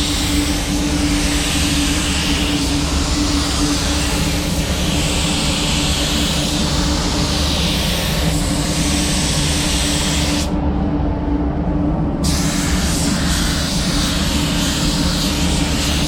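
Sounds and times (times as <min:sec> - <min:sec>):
spray gun hissing: 0:00.0 - 0:10.5, 0:12.2 - 0:16.0
ventilation hum and rumble: 0:00.0 - 0:16.0.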